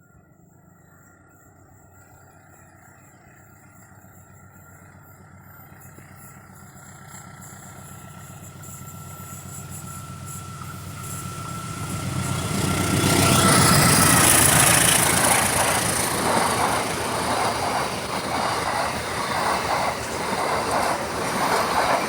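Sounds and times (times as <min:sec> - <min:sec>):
diesel train passing: 0:00.0 - 0:22.0
thin steady whine: 0:00.0 - 0:22.0.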